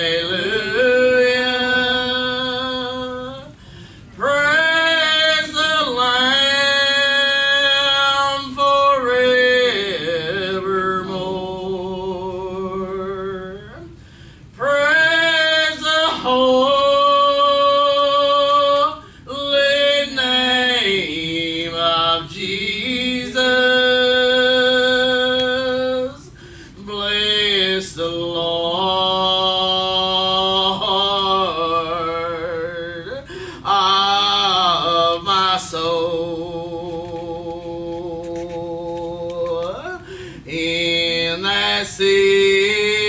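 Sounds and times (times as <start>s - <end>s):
person singing gospel song: 0.0s - 43.0s.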